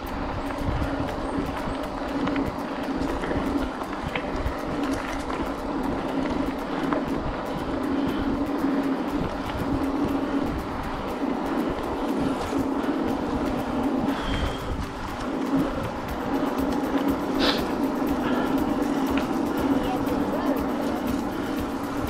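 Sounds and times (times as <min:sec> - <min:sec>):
bike tyres crunching gravel: 0:00.0 - 0:22.0
steady hum: 0:00.0 - 0:22.0
wind on microphone: 0:00.0 - 0:22.0.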